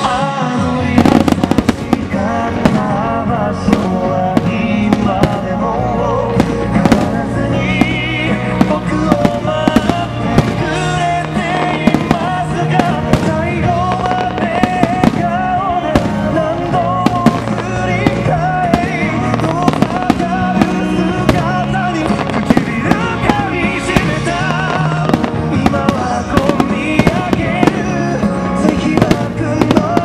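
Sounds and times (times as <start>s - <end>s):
fireworks bursting: 0.0s - 30.0s
song with sung melody and bass: 0.0s - 30.0s.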